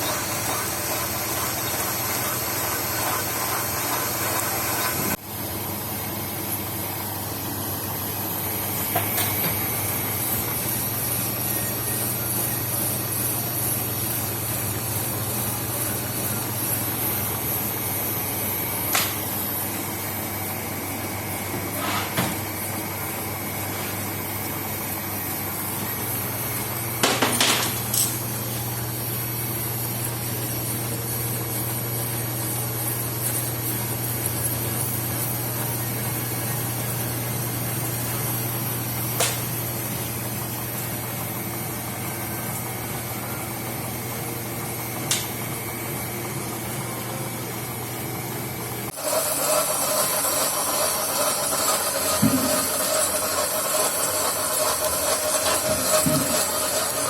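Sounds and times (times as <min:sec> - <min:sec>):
metal-cutting machine running: 0:00.0 - 0:21.5, 0:24.2 - 0:57.0.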